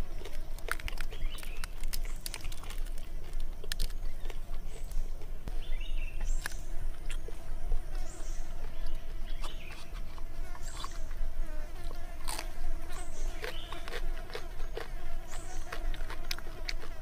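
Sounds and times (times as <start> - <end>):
insects buzzing: 0.0 - 17.0
man eating with smacking: 0.0 - 17.0.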